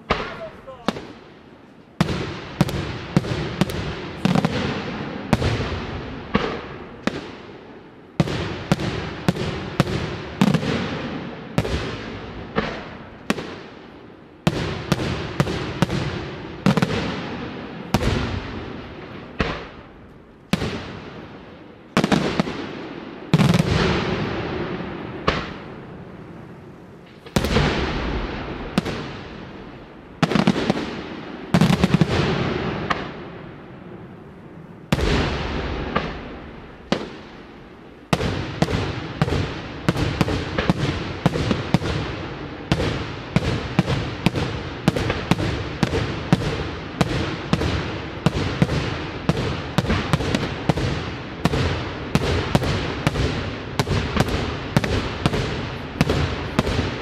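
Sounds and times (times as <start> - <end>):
fireworks bangs echoing: 0.0 - 57.0.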